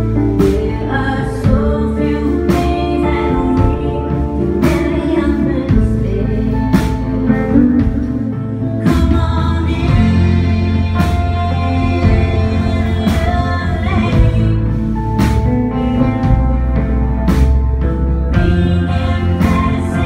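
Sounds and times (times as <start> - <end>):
rock band playing: 0.0 - 20.0
woman singing: 0.1 - 15.4, 18.3 - 20.0.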